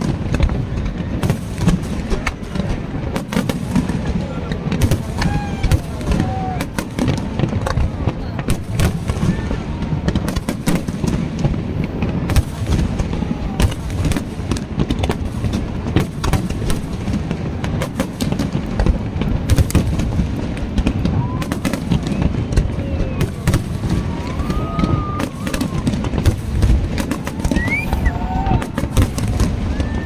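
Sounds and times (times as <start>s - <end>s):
crowd voices: 0.0s - 30.0s
fireworks bangs and crackles: 0.0s - 30.0s.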